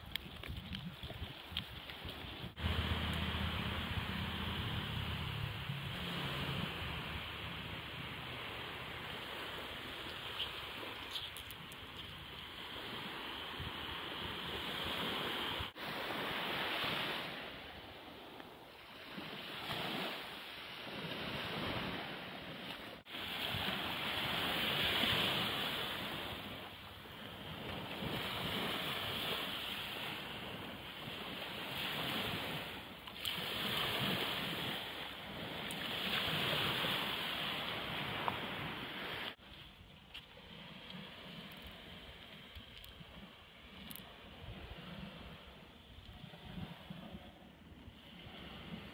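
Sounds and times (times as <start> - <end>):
waves breaking on beach: 1.0 - 39.5, 40.1 - 48.9.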